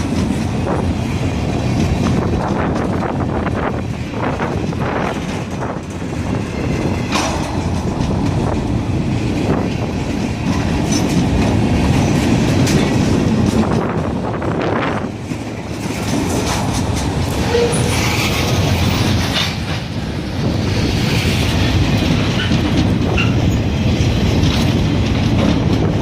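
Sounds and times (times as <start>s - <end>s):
train rumbling past: 0.0s - 26.0s
wheels clacking over rail joints: 0.0s - 26.0s.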